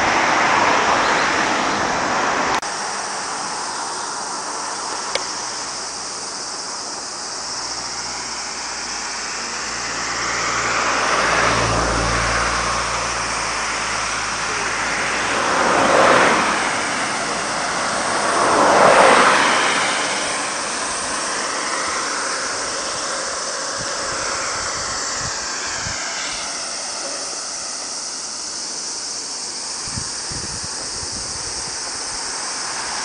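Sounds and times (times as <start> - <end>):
road vehicles passing by: 0.0 - 33.0
steady high hiss: 0.0 - 33.0.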